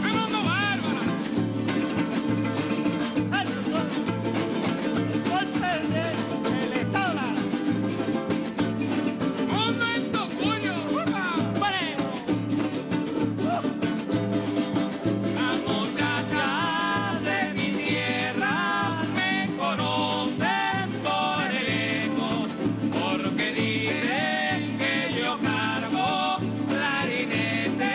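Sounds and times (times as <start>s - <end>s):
hand drum beat: 0.0s - 27.9s
strummed guitars: 0.0s - 27.9s.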